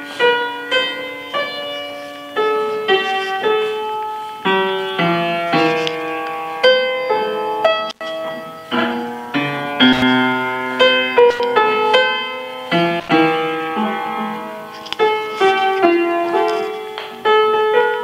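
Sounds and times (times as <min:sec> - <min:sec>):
upright piano melody: 0:00.0 - 0:18.0.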